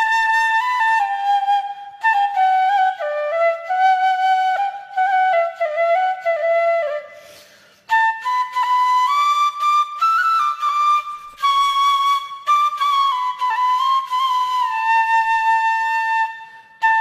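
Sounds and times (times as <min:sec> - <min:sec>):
solo flute melody: 0:00.0 - 0:17.0.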